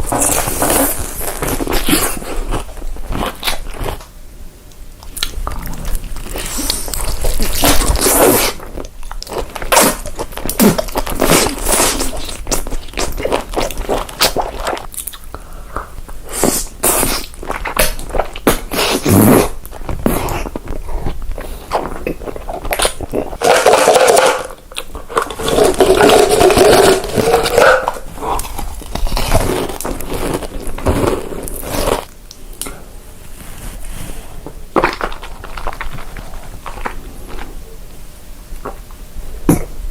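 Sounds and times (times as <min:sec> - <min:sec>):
crunchy chewing: 0:00.0 - 0:04.2, 0:05.0 - 0:32.7, 0:33.4 - 0:37.6.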